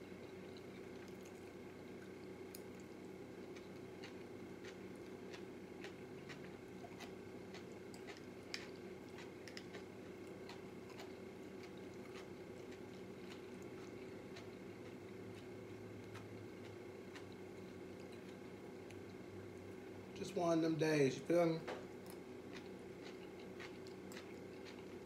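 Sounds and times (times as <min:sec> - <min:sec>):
person chewing food: 0:00.0 - 0:19.7, 0:21.9 - 0:25.0
low steady hum: 0:00.0 - 0:25.0.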